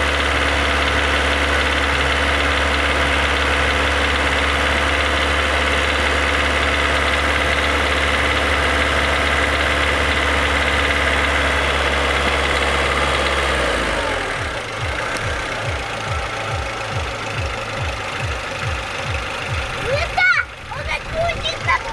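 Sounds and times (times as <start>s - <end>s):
car engine idling: 0.0s - 21.9s
car engine knocking at high revs: 0.0s - 21.9s.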